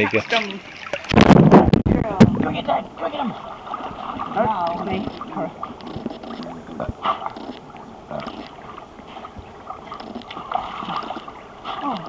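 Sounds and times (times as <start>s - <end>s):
pool water sloshing: 0.0s - 12.0s.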